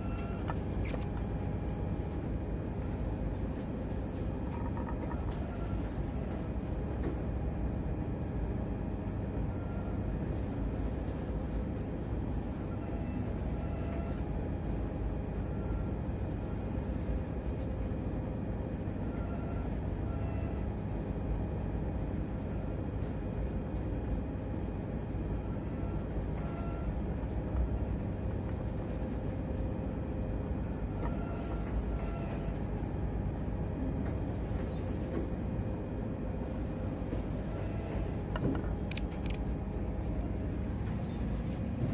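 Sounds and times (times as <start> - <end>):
ship engines rumbling: 0.0 - 17.1, 24.2 - 41.9.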